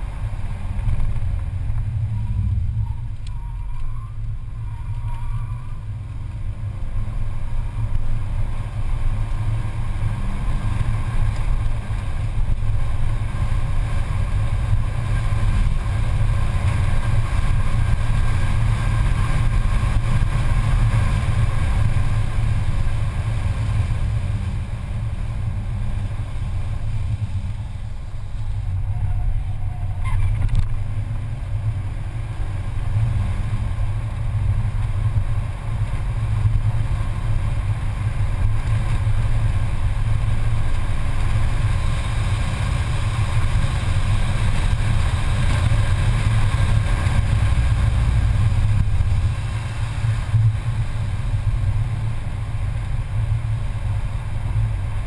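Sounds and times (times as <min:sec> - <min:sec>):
car engine running hard: 0:00.0 - 0:55.0
road and wind noise: 0:00.0 - 0:55.0.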